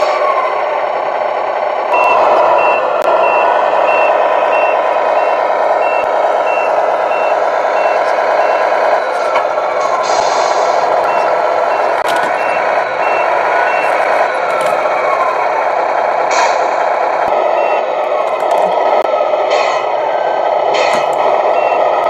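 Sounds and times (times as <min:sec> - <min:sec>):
simulated diesel engine running: 0:00.0 - 0:22.0
reversing beeper: 0:01.9 - 0:15.7, 0:17.3 - 0:20.0, 0:20.8 - 0:22.0.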